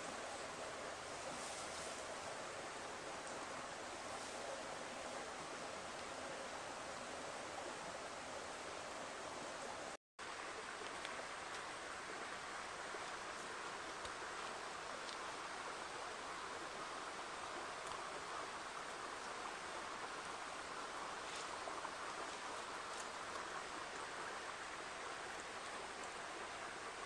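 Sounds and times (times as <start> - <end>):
creek rushing: 0.0 - 27.0.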